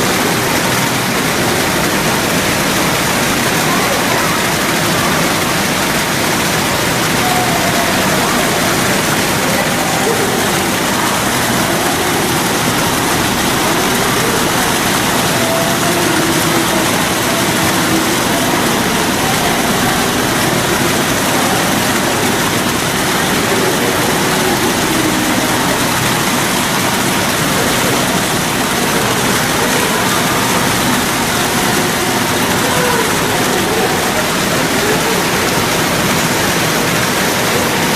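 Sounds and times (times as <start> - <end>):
faint voices murmuring: 0.0 - 37.9
falling water rushing: 0.0 - 37.9.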